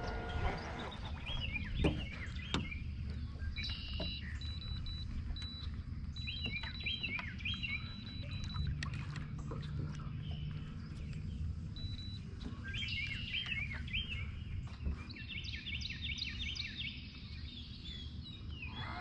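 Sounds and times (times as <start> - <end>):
low outdoor rumble: 0.0 - 19.0
songbird chirping: 0.0 - 19.0.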